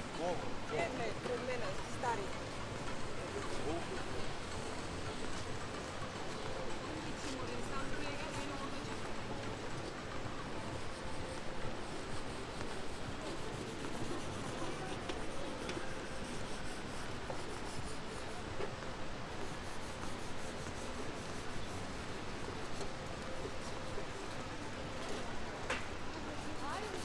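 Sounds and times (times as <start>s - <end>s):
city square rushing hiss: 0.0s - 27.0s.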